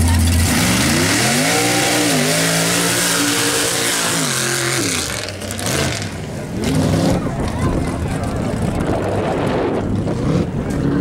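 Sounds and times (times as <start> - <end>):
truck engine at full throttle: 0.0 - 11.0.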